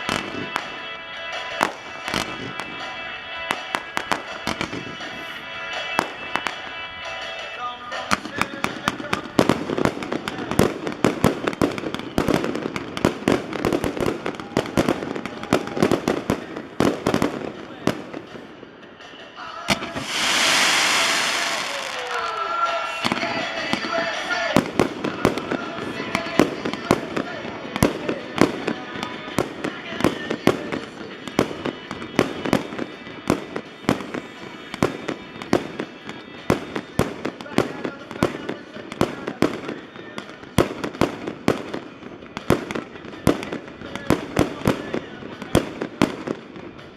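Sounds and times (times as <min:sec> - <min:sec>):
fireworks bangs and crackling pops: 0:00.0 - 0:46.9
music playing: 0:00.0 - 0:46.9.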